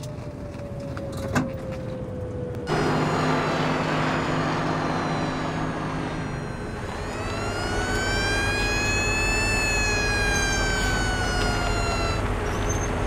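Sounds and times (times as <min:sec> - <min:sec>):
fire engine running: 0:02.3 - 0:13.0.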